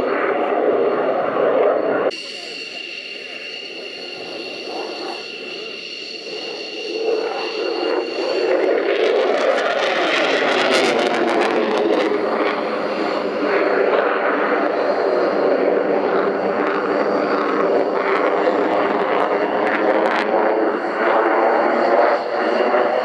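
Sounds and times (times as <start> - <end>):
jet aircraft engine overhead: 0.0 - 23.0.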